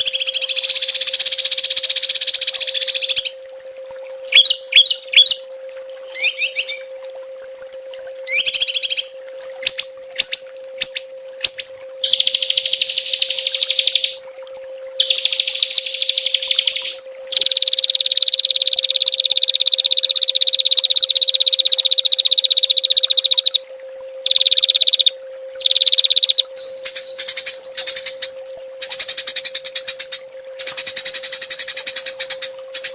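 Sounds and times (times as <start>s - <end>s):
songbird calls and trills: 0.0s - 3.4s, 4.3s - 5.5s, 6.1s - 6.9s, 8.3s - 14.2s, 15.0s - 23.6s, 24.2s - 32.9s
low hum: 0.0s - 32.9s.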